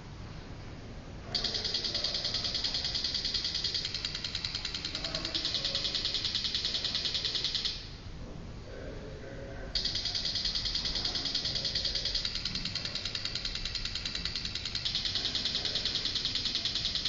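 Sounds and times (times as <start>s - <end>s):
fast electronic ticking: 1.3s - 8.0s, 9.8s - 17.0s.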